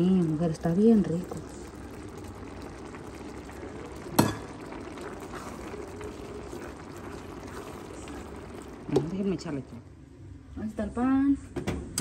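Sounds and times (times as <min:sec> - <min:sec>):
sauce bubbling in a skillet: 0:00.0 - 0:10.1.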